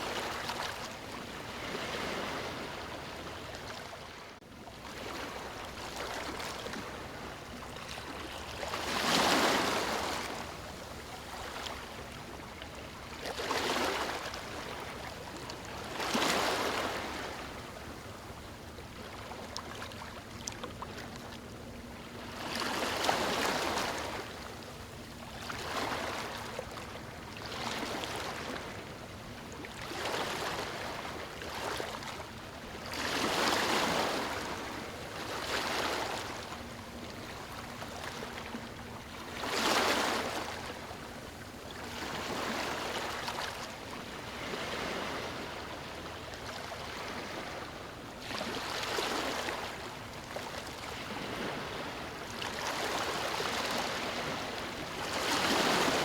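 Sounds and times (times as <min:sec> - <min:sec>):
small waves washing onto beach: 0:04.8 - 0:56.0.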